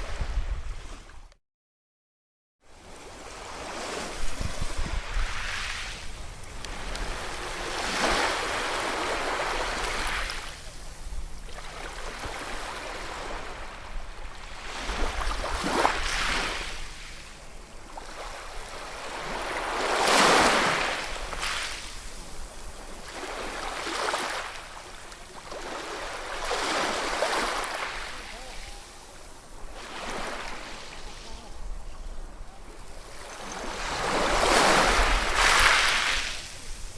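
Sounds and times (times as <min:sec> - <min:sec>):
ocean surf waves breaking: 0:05.0 - 0:36.9.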